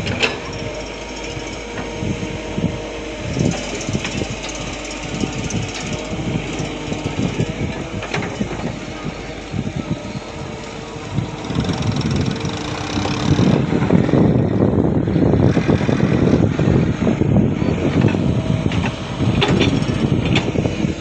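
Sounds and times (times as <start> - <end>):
engine running roughly: 0.0 - 21.0.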